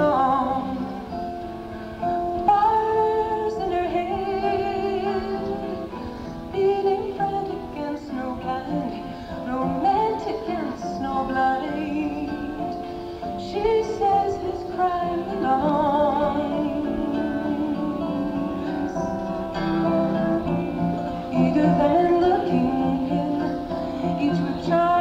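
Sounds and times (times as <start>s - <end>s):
guitar accompaniment: 0.0s - 25.0s
woman singing: 0.0s - 25.0s.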